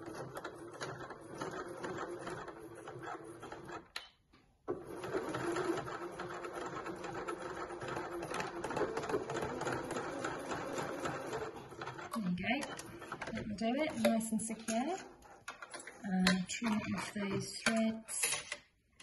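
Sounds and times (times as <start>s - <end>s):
sewing machine stitching: 0.0s - 4.0s, 4.7s - 18.4s.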